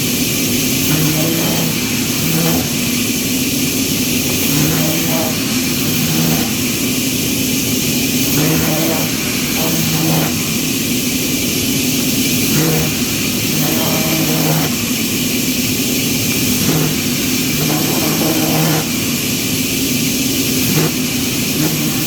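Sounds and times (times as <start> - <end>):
power tool running: 0.0 - 22.0.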